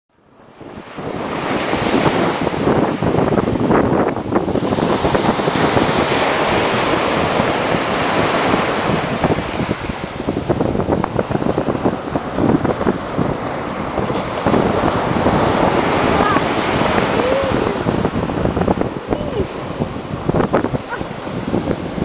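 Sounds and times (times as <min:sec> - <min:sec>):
wind buffeting microphone: 0:00.2 - 0:22.0
sea waves breaking on beach: 0:00.3 - 0:22.0.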